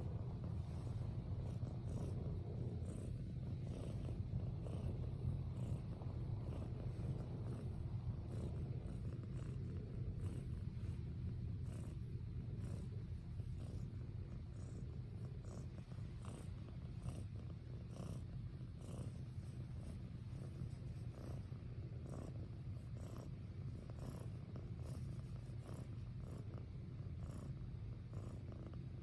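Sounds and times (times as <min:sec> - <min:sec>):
cat purring: 0:00.0 - 0:29.0.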